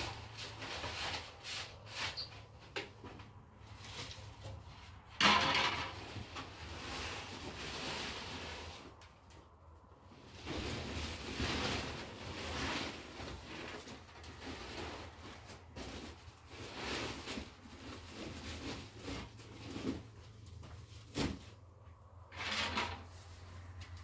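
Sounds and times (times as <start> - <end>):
plastic sheet rustling: 0.0 - 2.5, 3.6 - 9.0, 10.1 - 21.7.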